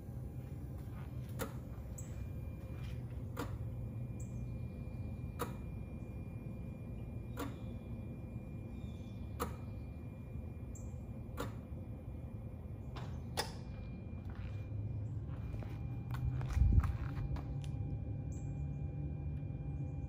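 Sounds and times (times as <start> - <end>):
engine idling rumble: 0.0 - 20.0.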